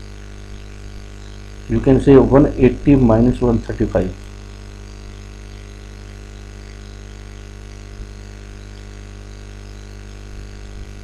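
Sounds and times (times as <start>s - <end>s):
electrical hum with buzz: 0.0s - 11.0s.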